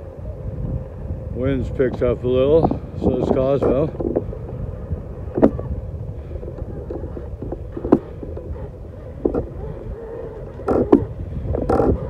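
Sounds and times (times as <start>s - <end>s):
distant boat motor whine: 0.0s - 12.0s
wind buffeting microphone: 0.0s - 12.0s.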